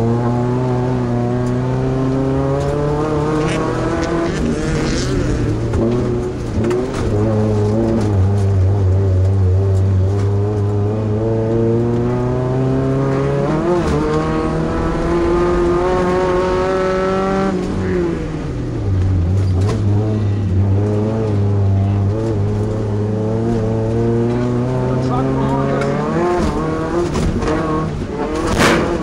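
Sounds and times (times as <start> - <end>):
truck engine revving under load: 0.0 - 29.0.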